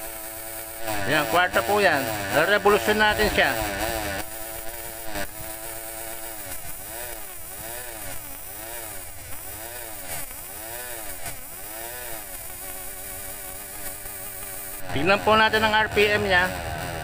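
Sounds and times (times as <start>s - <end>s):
motor whine: 0.0s - 17.0s.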